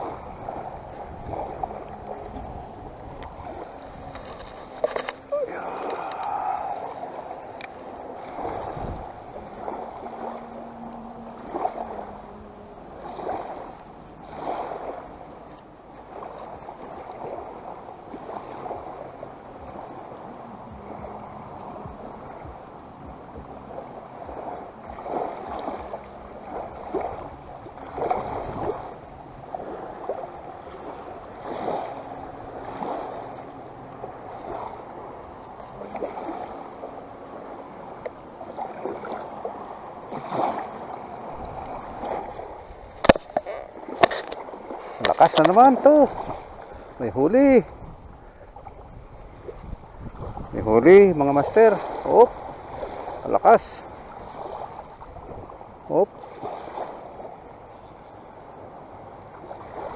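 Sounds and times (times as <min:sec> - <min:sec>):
small waves lapping shoreline: 0:00.0 - 0:59.9.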